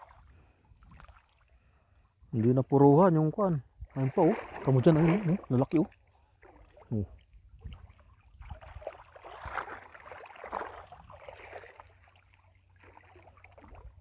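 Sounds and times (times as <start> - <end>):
shallow water splashing: 0.0 - 2.7, 3.8 - 14.0.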